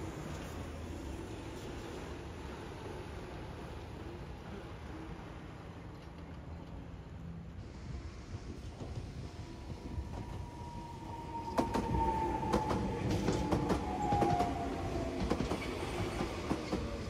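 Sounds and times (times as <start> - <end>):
train passing close by: 0.0 - 17.0.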